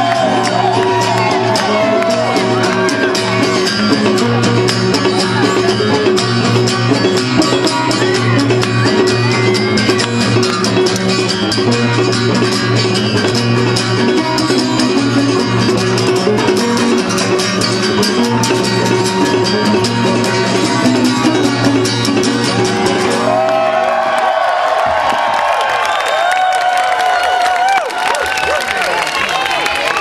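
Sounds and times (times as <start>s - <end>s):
guitar: 0.0s - 24.2s.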